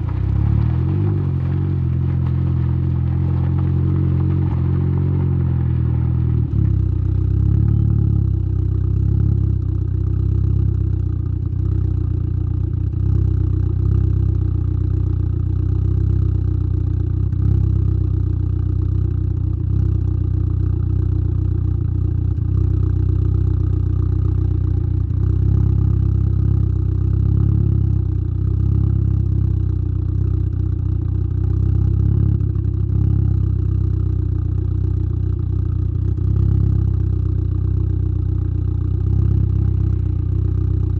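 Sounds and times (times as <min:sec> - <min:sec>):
car exhaust at low revs: 0:00.0 - 0:40.9.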